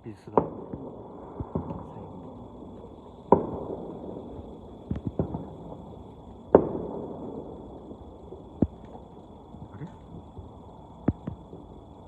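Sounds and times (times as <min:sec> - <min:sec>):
distant fireworks booming: 0:00.0 - 0:12.0.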